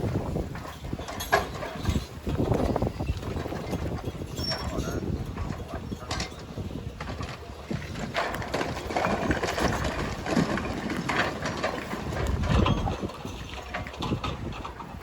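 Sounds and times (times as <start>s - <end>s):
knocking and clattering: 0.0s - 15.0s.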